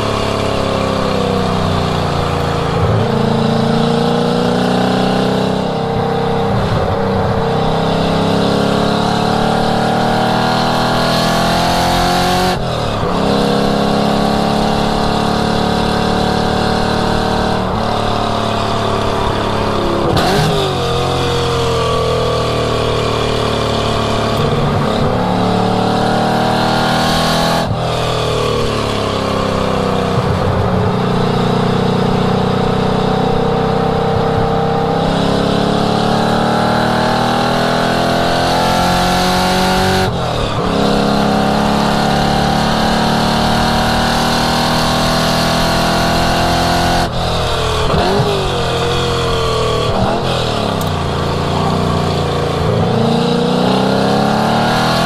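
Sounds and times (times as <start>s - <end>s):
car engine at full throttle: 0.0s - 55.0s.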